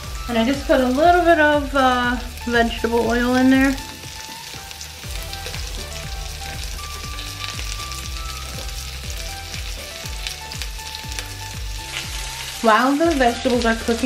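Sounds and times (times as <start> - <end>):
background music with steady beat: 0.0 - 14.0
peppers sizzling in oil: 0.0 - 14.0.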